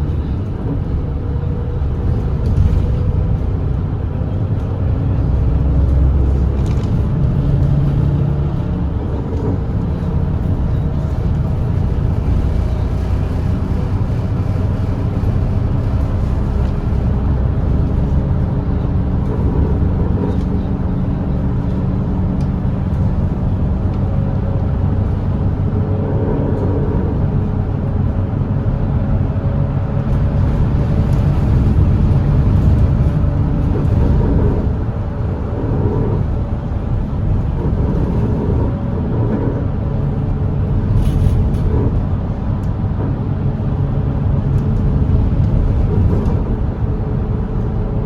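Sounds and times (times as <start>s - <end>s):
bus diesel engine droning: 0.0s - 48.0s
road noise: 0.0s - 48.0s.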